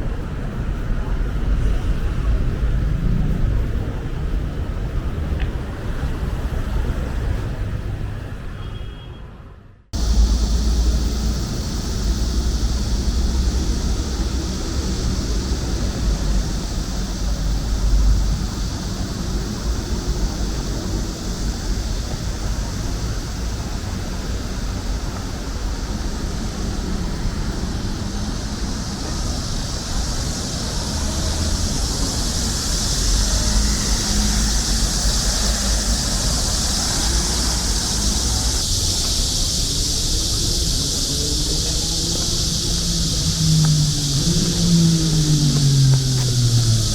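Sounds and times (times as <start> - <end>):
cicadas chorus: 0.0 - 9.1, 10.0 - 46.9
city traffic rumble: 0.0 - 46.9.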